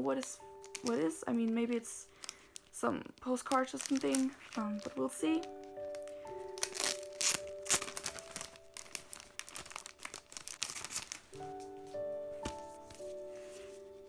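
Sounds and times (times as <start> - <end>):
plastic sleeve crinkling: 0.0 - 14.0
soft background music: 0.0 - 14.0.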